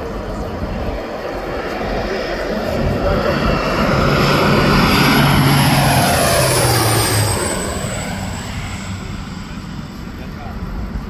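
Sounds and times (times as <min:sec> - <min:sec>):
airplane engine and propeller passing: 0:00.0 - 0:11.0.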